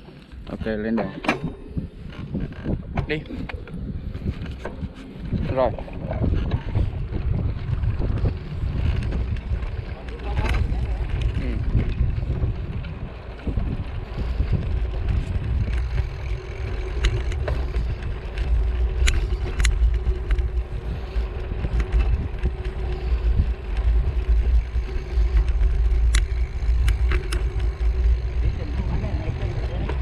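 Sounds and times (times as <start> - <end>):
bicycle clicks: 0.0 - 30.0
wind buffeting microphone: 0.0 - 30.0.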